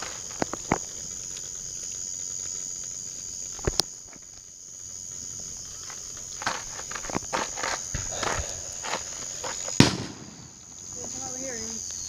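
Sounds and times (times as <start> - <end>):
firework pops: 0.0 - 1.7, 2.3 - 4.5, 5.5 - 12.0
night insects trilling: 0.0 - 12.0.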